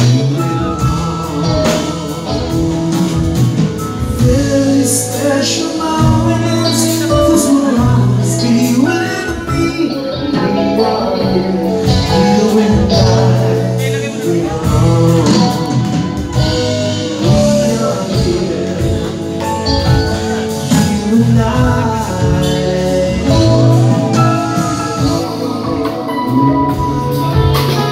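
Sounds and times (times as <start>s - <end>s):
bass guitar: 0.0s - 27.9s
drum kit: 0.0s - 27.9s
electric guitar: 0.0s - 27.9s
person singing: 0.0s - 27.9s.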